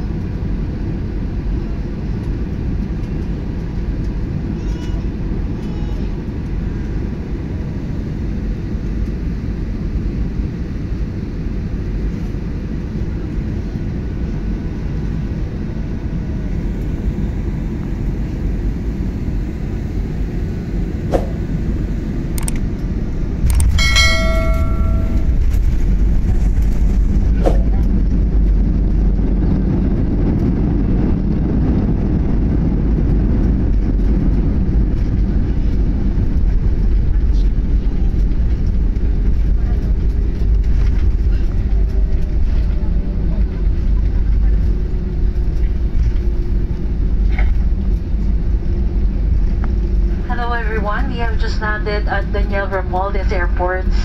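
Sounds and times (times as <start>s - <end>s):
jet engine and airflow rumble: 0.0s - 54.0s.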